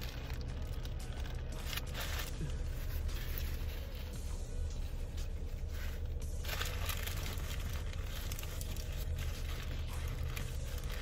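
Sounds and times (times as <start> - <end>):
paper wrapper crinkling: 0.0 - 11.0
steady low hum: 0.0 - 11.0.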